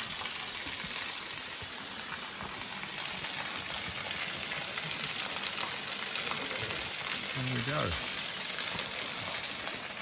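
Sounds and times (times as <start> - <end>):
waterfall pouring over rock: 0.0 - 10.0.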